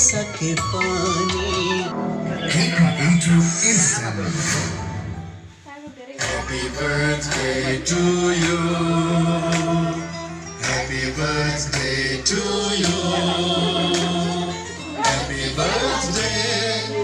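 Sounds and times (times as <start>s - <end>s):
person singing: 0.0s - 4.8s, 6.2s - 17.0s
bass line: 0.0s - 5.6s, 6.2s - 17.0s.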